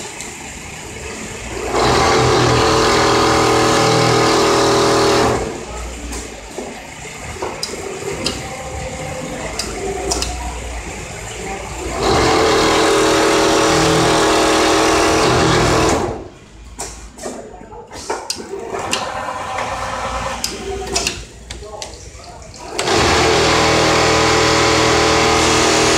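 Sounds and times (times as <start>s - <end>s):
sewing machine humming: 0.0s - 6.0s, 7.6s - 16.4s, 18.5s - 21.3s, 22.6s - 25.9s.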